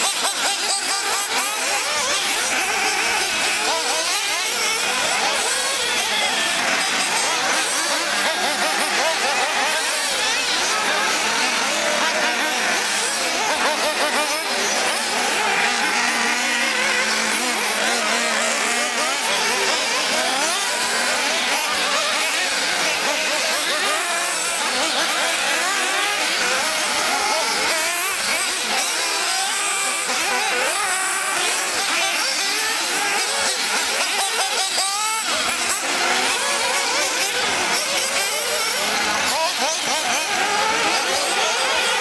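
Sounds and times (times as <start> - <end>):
rc car engines whining: 0.0 - 42.0.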